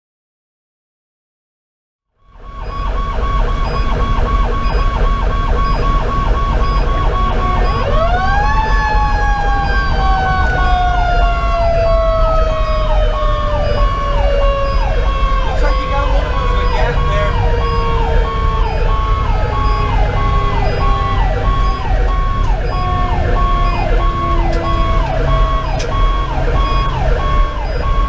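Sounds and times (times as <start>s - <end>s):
electronic siren yelp: 2.2s - 28.0s
diesel truck engine rumble: 2.3s - 28.0s.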